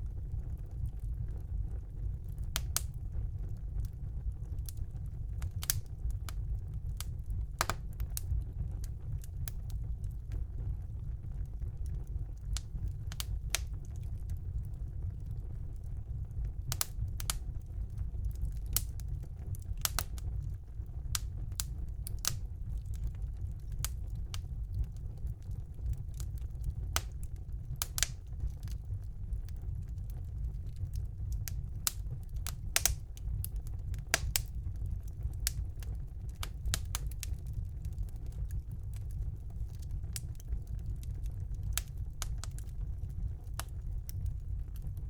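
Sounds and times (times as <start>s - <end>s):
low rumble of flames: 0.0s - 45.0s
wood fire crackling: 0.0s - 45.0s.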